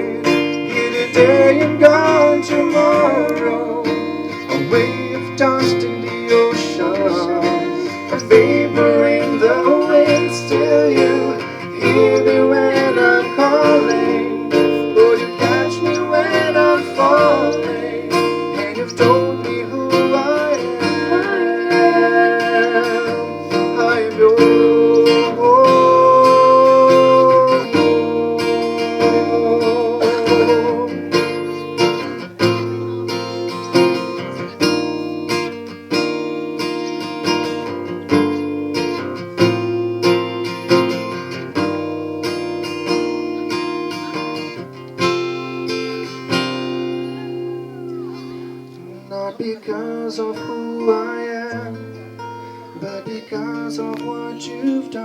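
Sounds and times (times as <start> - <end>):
person singing with vibrato: 0.0 - 35.4, 45.4 - 55.0
strummed acoustic guitar: 0.0 - 55.0.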